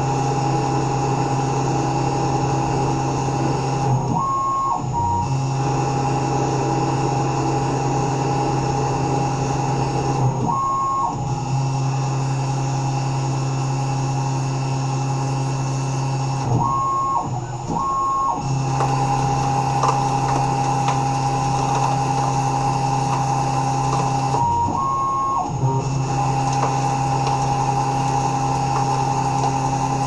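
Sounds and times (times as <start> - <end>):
milling machine spindle hum and whine: 0.0 - 30.0.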